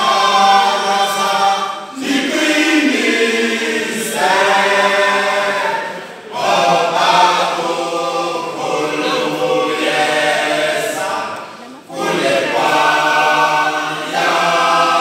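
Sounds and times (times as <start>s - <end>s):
male choir singing a cappella: 0.0s - 15.0s.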